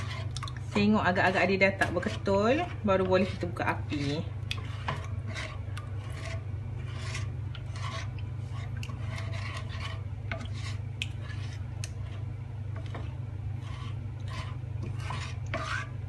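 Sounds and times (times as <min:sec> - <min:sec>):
spatula scraping frying pan: 0:00.0 - 0:16.0
steady low hum: 0:00.0 - 0:16.0.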